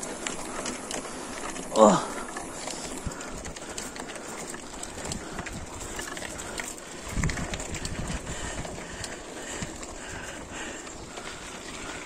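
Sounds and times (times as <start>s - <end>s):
bike rattling and knocking: 0.0s - 12.0s.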